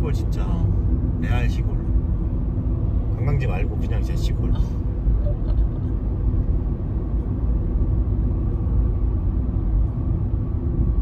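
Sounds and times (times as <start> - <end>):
vehicle driving rumble from inside: 0.0 - 11.0.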